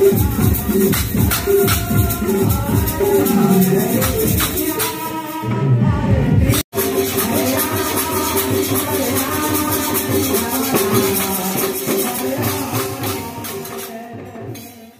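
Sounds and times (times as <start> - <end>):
barrel drums: 0.0 - 5.2, 6.4 - 14.9
jingling hand cymbals: 0.0 - 5.2, 6.8 - 14.9.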